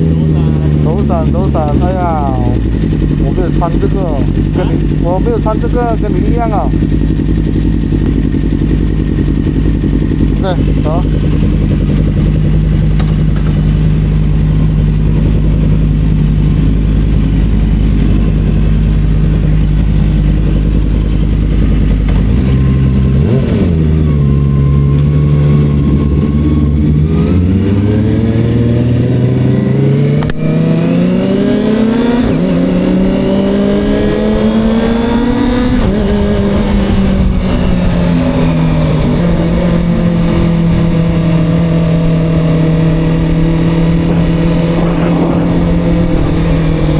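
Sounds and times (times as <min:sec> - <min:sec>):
motorcycle engine idling: 0:00.0 - 0:27.1, 0:34.1 - 0:46.9
motorcycle accelerating: 0:00.0 - 0:46.9.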